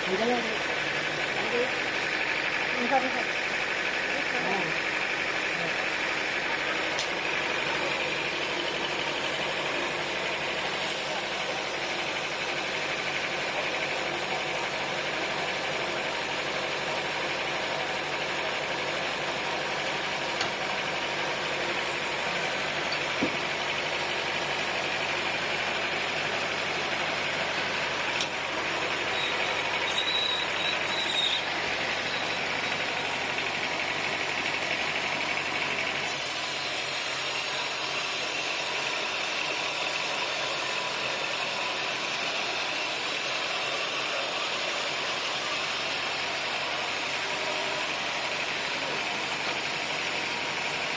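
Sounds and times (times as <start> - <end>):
high machine whine: 0.0 - 50.9
sawmill machinery drone: 0.0 - 50.9.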